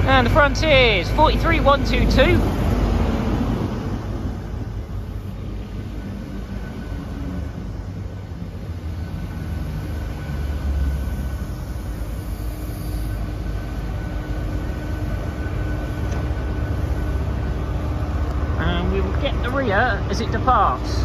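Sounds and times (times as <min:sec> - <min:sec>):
faint steady whine: 0:00.0 - 0:21.0
train coaches rumbling: 0:00.0 - 0:21.0.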